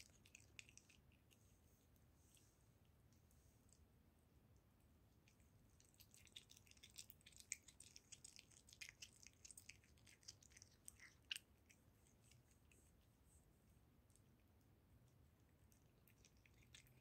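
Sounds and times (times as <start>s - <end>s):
kitten chewing and licking: 0.0s - 17.0s.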